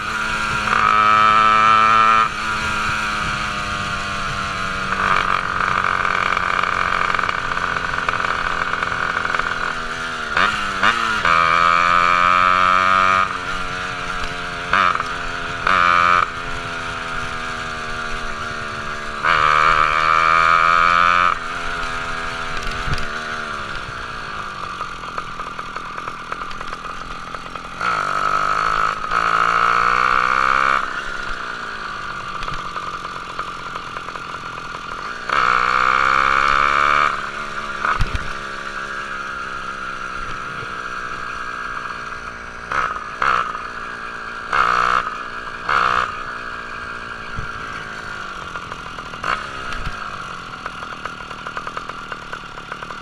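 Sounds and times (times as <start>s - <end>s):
two-stroke engine revving: 0.0s - 53.0s.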